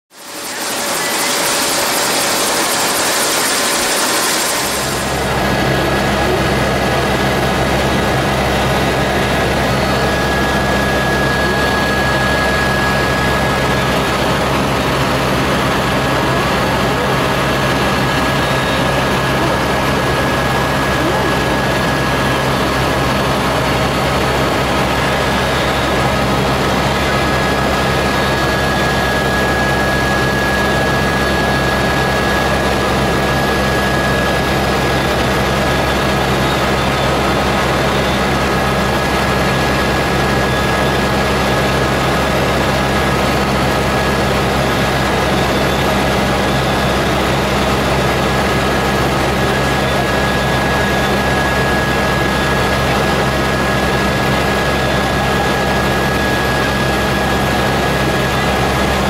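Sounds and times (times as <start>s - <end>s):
helicopter turbine and rotors: 0.1s - 59.0s.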